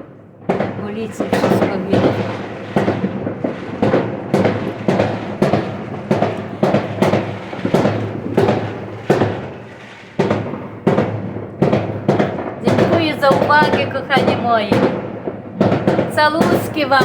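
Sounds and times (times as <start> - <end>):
fireworks bangs echoing: 0.0 - 17.0.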